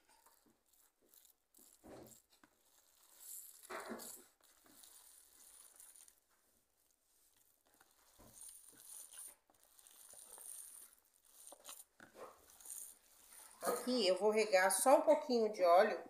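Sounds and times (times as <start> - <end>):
hand kneading mixture squishing: 0.0 - 14.9.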